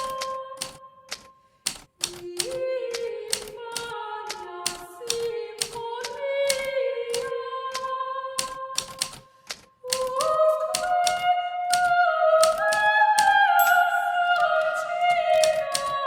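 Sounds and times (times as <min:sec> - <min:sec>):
typewriter keys striking: 0:00.0 - 0:02.6, 0:03.3 - 0:05.8, 0:06.5 - 0:12.9, 0:14.3 - 0:16.0.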